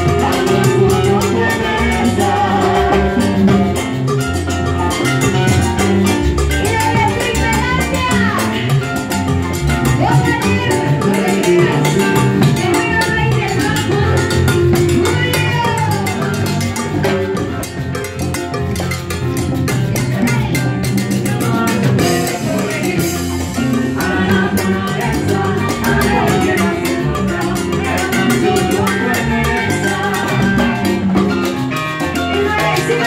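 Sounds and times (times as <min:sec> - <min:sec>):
live dance band playing: 0:00.0 - 0:33.0.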